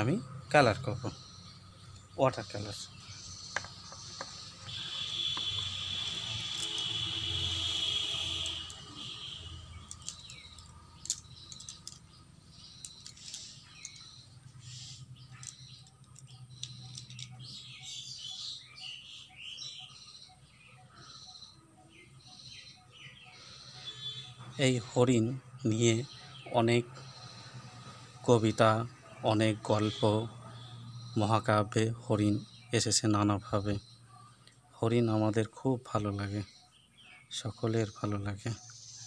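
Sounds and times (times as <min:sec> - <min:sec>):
birds chirping: 0:00.0 - 0:39.0
high buzzing bird trill: 0:00.0 - 0:39.0.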